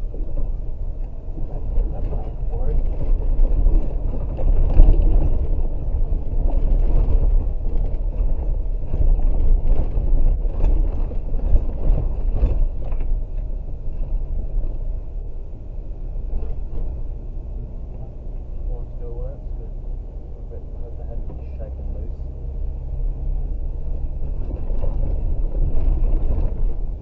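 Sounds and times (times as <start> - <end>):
vehicle knocks and rattles: 0.0 - 19.4, 20.1 - 27.0
engine and road rumble: 0.0 - 27.0.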